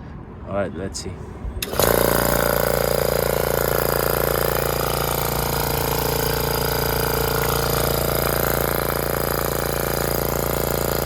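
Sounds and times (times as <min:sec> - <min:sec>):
piston pump motor humming: 0:01.6 - 0:11.0.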